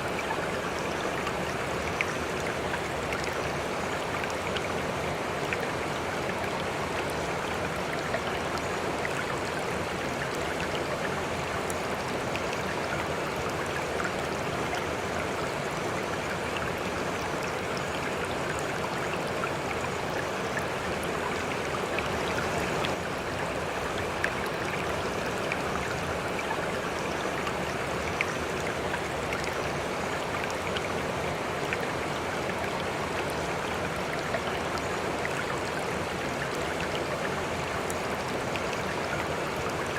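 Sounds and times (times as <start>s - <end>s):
water rushing over rocks: 0.0s - 39.9s
water splashes and drips: 0.0s - 39.9s.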